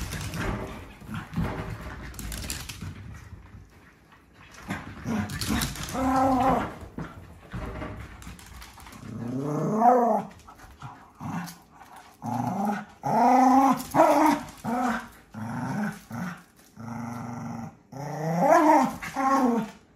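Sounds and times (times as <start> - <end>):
dogs growling in play: 0.0 - 3.7, 4.4 - 19.9.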